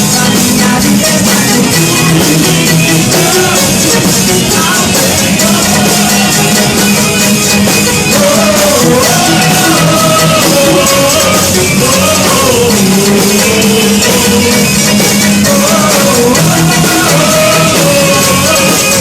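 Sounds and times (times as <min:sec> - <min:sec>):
amplified singing: 0:00.0 - 0:19.0
drums: 0:00.0 - 0:19.0
guitars: 0:00.0 - 0:19.0.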